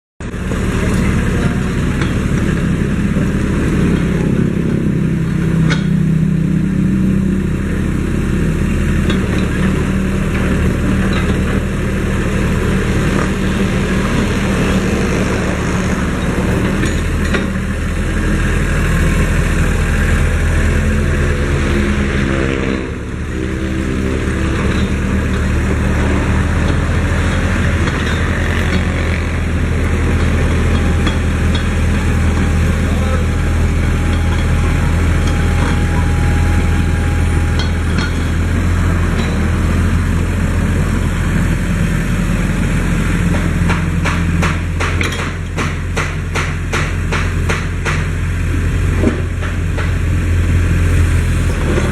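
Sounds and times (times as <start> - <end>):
diesel engine running: 0.2 - 51.9.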